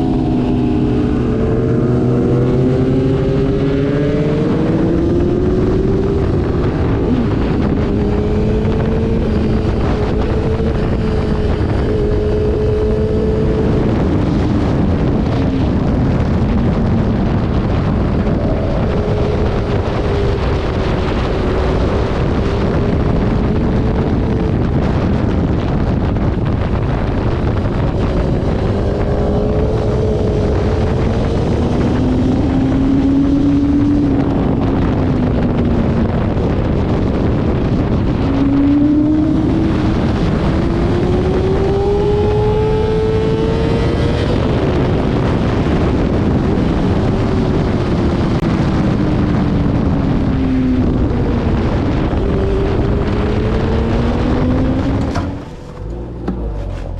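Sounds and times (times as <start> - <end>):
motorcycle engine at speed: 0.0 - 56.9
wind noise on microphone: 0.0 - 56.9.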